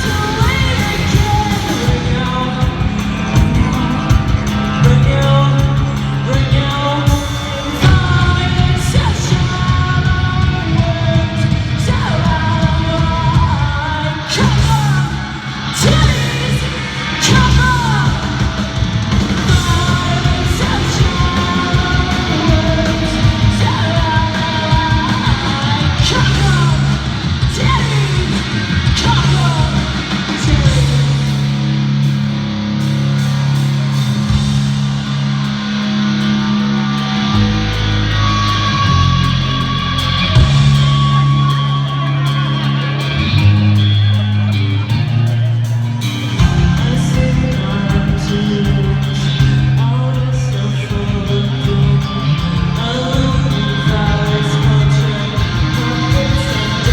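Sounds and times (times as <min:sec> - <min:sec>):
shouted vocals: 0:00.0 - 0:31.4, 0:35.4 - 0:56.9
rock band playing: 0:00.0 - 0:56.9.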